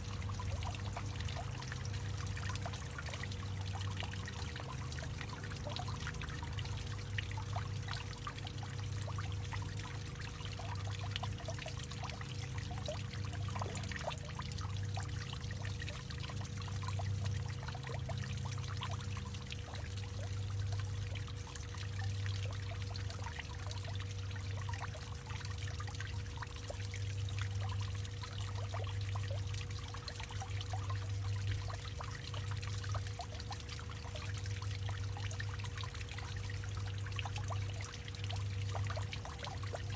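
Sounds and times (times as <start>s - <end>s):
low hollow hum: 0.0s - 39.9s
water dripping: 0.0s - 39.9s
water trickling: 0.0s - 39.9s.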